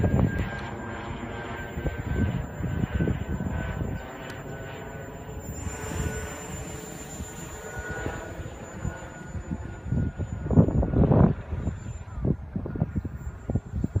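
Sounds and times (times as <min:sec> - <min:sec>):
model aircraft motor whine: 0:00.0 - 0:14.0
wind buffeting microphone: 0:00.0 - 0:14.0.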